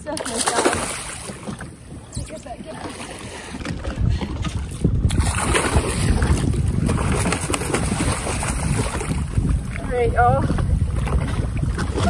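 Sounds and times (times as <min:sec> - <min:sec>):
water sloshing against hull: 0:00.0 - 0:12.0
wind buffeting microphone: 0:00.0 - 0:12.0.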